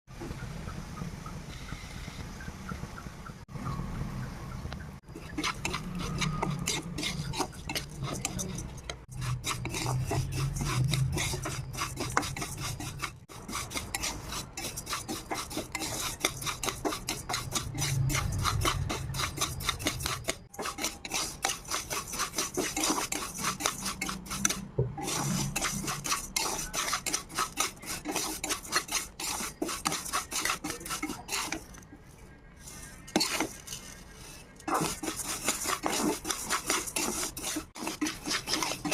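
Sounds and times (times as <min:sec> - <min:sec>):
spatula scraping rice in a pan: 0:05.0 - 0:38.9.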